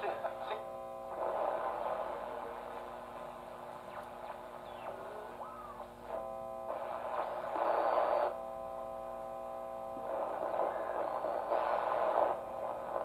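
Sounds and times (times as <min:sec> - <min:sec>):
radio hiss and static: 0:00.0 - 0:13.0
steady buzzing tone: 0:00.0 - 0:13.0
steady radio hum: 0:00.0 - 0:13.0.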